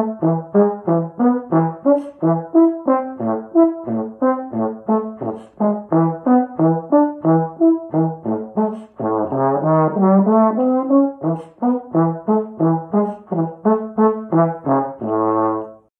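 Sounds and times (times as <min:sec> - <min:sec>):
solo trombone playing: 0:00.0 - 0:15.9.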